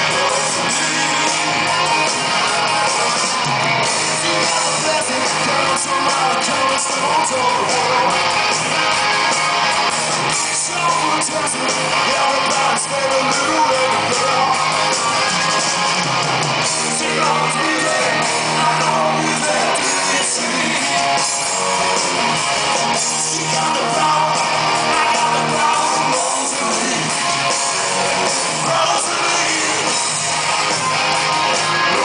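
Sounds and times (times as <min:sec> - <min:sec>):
lead vocal singing: 0:00.0 - 0:09.2, 0:10.4 - 0:15.9, 0:16.6 - 0:30.2, 0:31.5 - 0:32.0
bass guitar: 0:00.0 - 0:32.0
drums: 0:00.0 - 0:32.0
electric guitars: 0:00.0 - 0:32.0.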